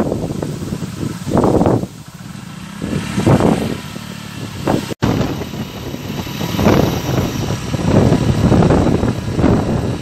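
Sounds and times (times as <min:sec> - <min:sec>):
heavy rain hiss: 0:00.0 - 0:10.0
wind buffeting microphone: 0:00.0 - 0:10.0.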